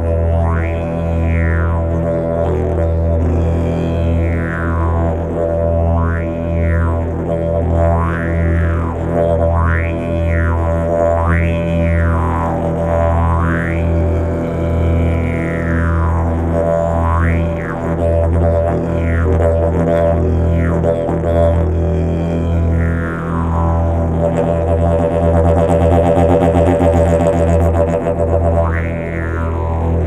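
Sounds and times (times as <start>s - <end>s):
didgeridoo low drone: 0.0s - 30.0s.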